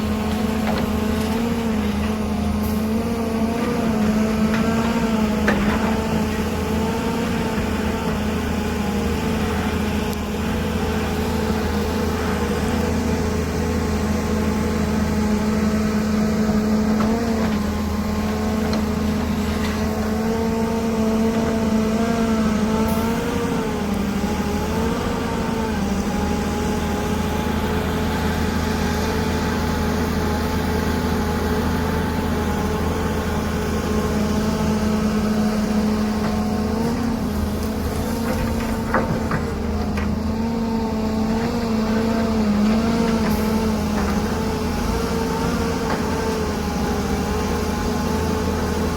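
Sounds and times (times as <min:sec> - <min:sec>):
excavator diesel engine: 0:00.0 - 0:48.9.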